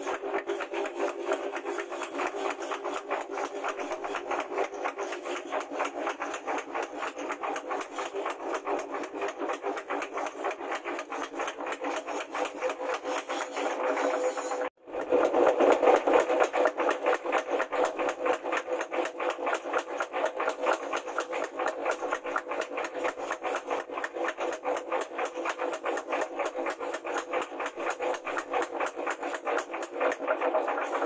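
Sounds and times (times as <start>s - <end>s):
power hammer pounding steel: 0.0s - 31.0s.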